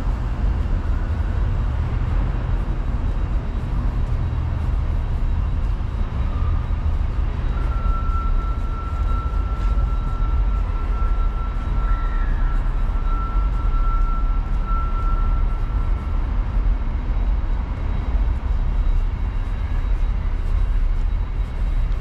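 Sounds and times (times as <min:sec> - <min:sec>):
thin high whine: 0:00.0 - 0:22.0.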